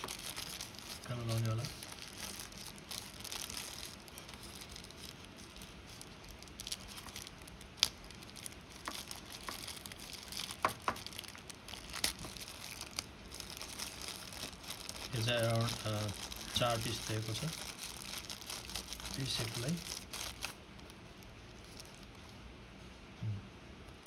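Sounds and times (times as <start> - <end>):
plastic packaging crinkling: 0.0 - 22.5.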